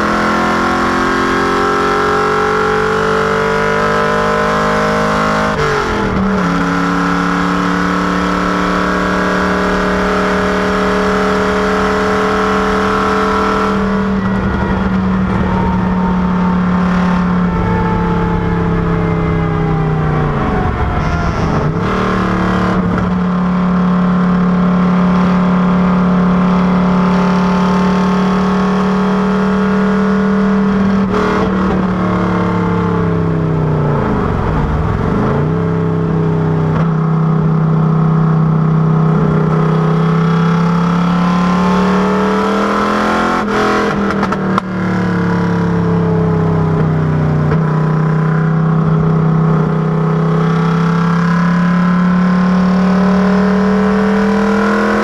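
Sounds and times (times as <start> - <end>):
racing car engine running hard: 0.0 - 55.0.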